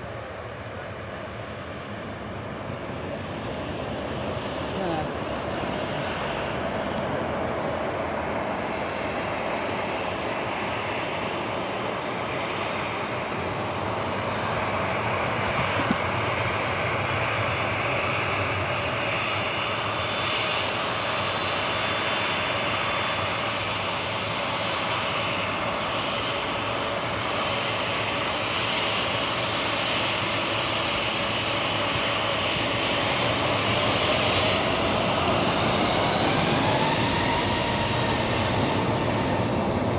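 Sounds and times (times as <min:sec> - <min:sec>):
aircraft engines whining: 0:00.0 - 0:39.9.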